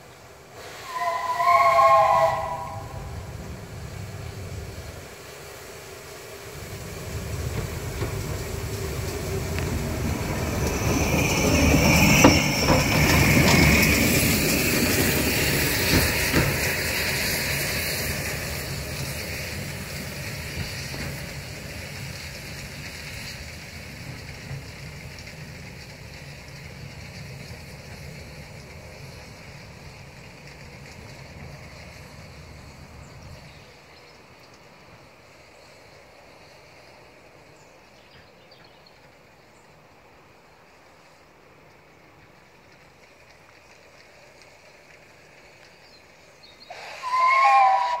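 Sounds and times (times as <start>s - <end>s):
steam locomotive hiss: 0.0s - 48.0s
wheels clattering on rails: 0.9s - 48.0s.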